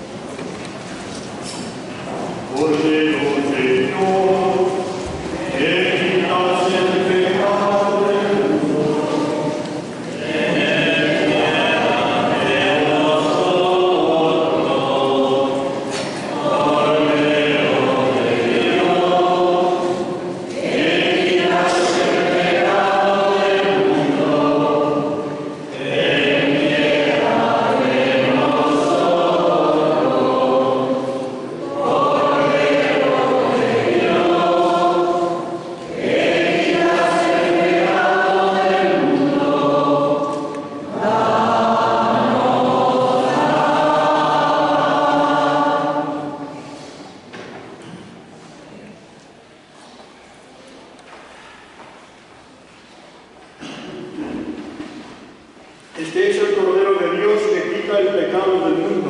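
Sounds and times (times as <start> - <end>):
choir singing a hymn: 1.6 - 48.0, 53.6 - 59.0.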